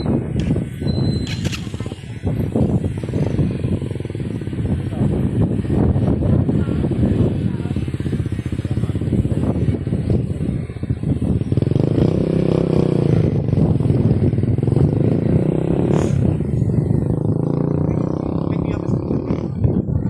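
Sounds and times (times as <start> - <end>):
motor engine running: 0.0 - 20.0.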